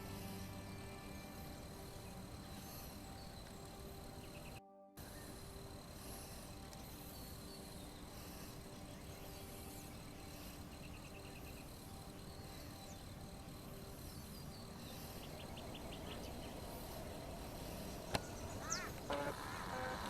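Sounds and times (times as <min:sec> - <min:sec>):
faint insect hum: 0:00.0 - 0:20.0
steady hiss: 0:00.0 - 0:20.0.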